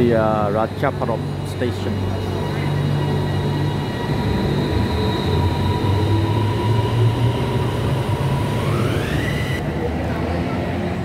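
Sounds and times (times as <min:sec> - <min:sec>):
high-pitched whine: 0:00.0 - 0:10.4
electric train low hum: 0:00.0 - 0:11.0.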